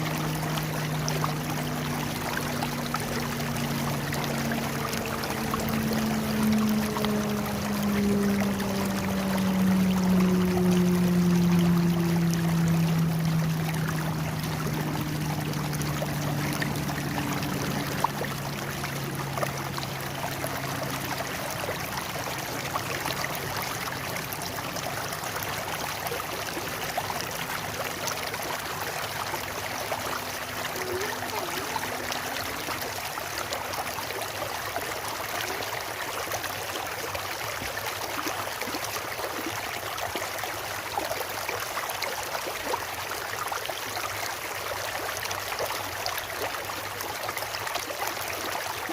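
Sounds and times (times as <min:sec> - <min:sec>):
low steady hum: 0:00.0 - 0:42.8
stream water flowing and splashing: 0:00.0 - 0:48.9.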